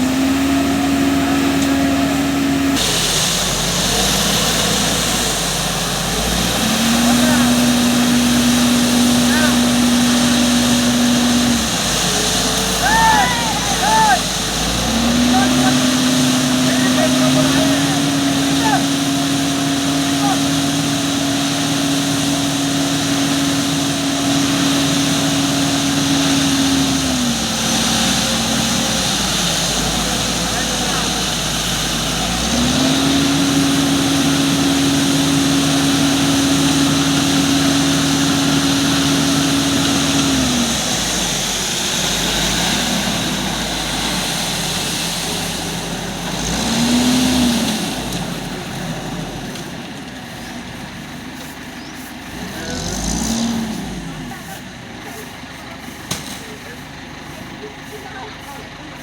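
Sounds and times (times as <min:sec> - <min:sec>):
construction machinery engine running: 0:00.0 - 0:59.0
engine hiss: 0:00.0 - 0:59.0.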